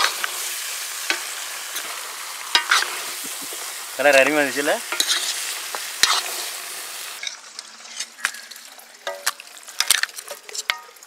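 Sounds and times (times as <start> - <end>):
metal ladle scraping a pan: 0.0 - 10.9
meat sizzling in a pan: 0.0 - 11.0.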